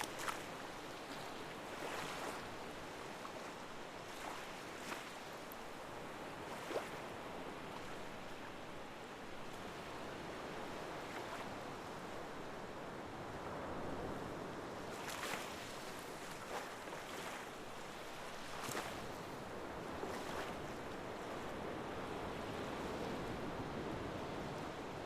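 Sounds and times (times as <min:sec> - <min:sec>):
moving water: 0:00.0 - 0:13.7, 0:14.7 - 0:23.7.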